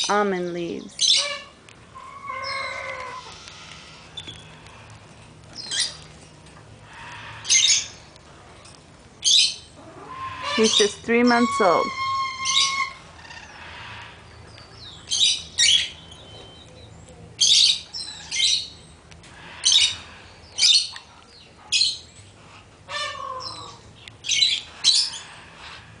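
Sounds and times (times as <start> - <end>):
birds squawking and chirping: 0.0 - 26.0.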